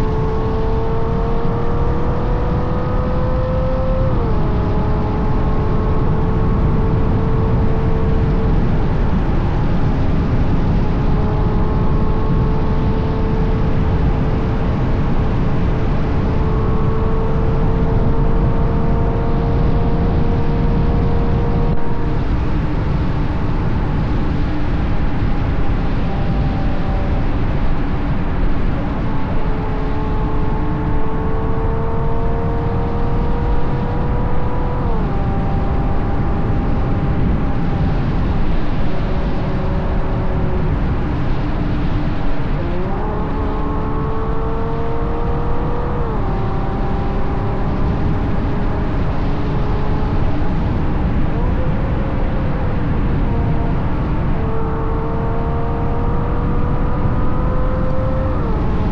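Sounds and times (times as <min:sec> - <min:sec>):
road and wind rush: 0:00.0 - 0:58.9
sports car engine revving: 0:00.0 - 0:58.9.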